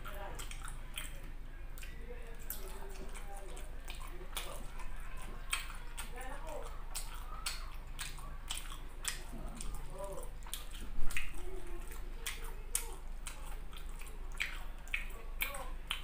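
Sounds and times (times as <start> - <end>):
wet chewing with mouth closed: 0.0 - 16.0.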